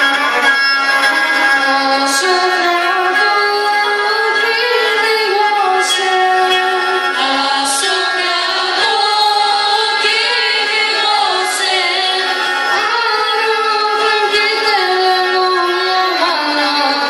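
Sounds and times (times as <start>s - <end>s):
bowed lyra folk melody: 0.0s - 17.0s.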